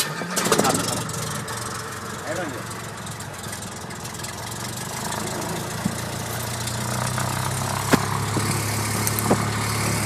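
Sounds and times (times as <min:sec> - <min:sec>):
aircraft engine idling: 0:00.0 - 0:10.0.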